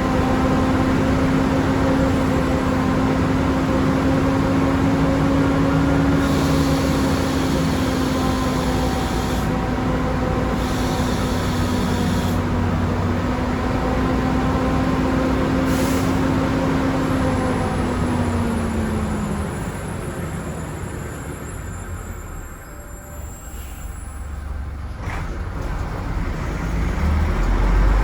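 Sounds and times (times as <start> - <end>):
diesel bus engine droning: 0.0 - 28.0.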